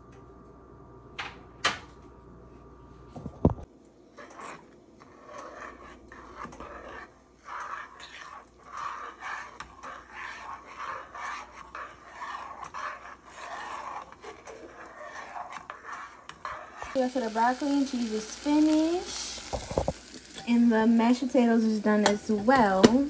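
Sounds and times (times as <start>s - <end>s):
spoon stirring mashed potatoes: 3.7s - 23.0s.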